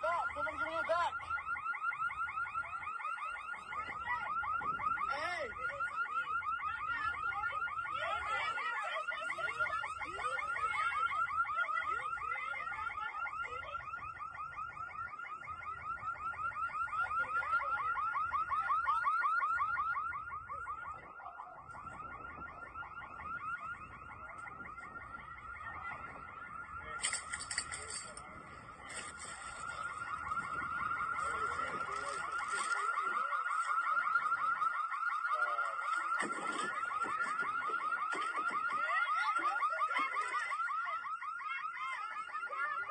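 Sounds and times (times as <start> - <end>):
electronic alarm siren warbling: 0.0 - 42.9.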